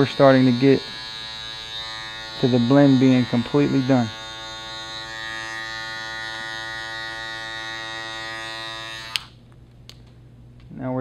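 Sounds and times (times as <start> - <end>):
electric hair clipper humming: 0.0 - 9.4.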